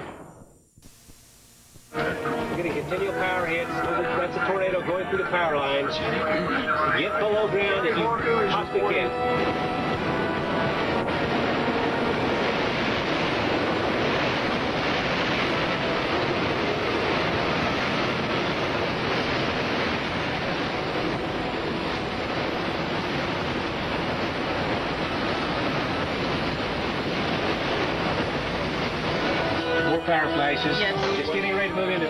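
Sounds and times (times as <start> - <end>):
tornado wind roaring: 0.0 - 0.8, 1.9 - 32.0.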